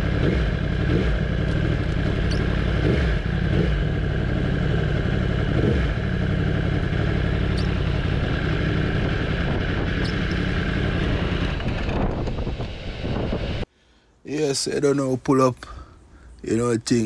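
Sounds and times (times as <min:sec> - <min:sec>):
motorcycle engine at low revs: 0:00.0 - 0:13.7.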